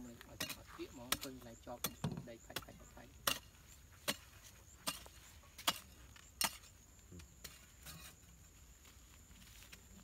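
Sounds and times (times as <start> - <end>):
hoe striking dry soil: 0.0 - 8.3.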